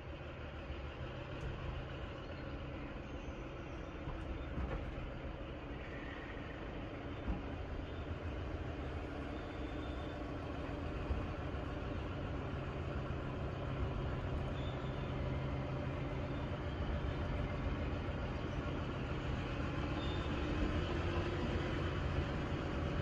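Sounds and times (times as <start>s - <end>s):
railway carriages rolling slowly: 0.0s - 23.0s.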